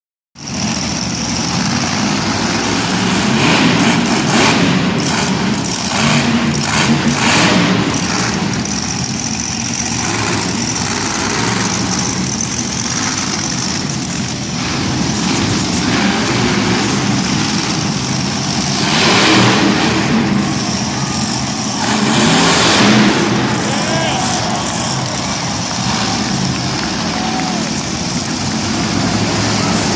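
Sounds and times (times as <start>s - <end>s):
truck engine revving: 0.4s - 29.9s.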